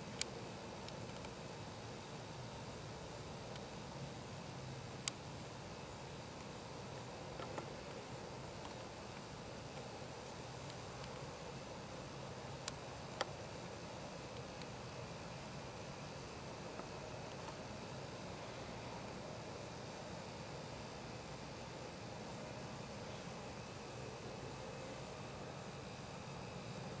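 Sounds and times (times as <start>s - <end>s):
night insects droning: 0.0s - 27.0s.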